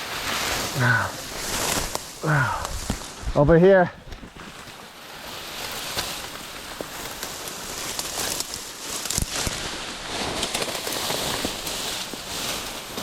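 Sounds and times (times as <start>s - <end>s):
undergrowth rustling and crackling: 0.0s - 13.0s
twigs snapping: 0.2s - 3.2s, 5.4s - 13.0s.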